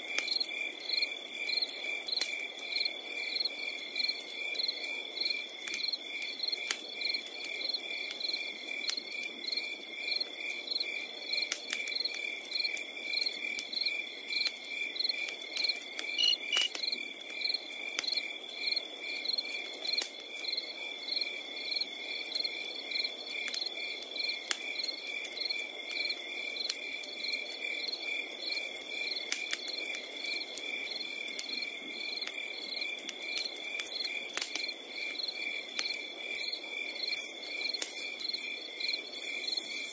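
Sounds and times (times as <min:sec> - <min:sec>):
campfire crackling: 0:00.0 - 0:39.9
crickets chirping: 0:00.3 - 0:11.4, 0:12.0 - 0:39.9.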